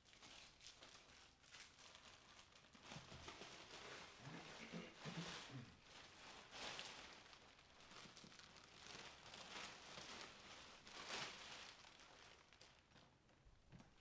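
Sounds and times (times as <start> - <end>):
material rustling: 0.1 - 14.0.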